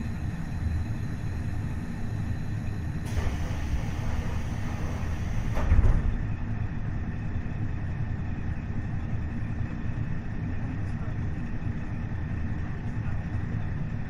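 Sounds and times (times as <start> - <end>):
railcar engine and wheels rumbling: 0.0 - 14.0.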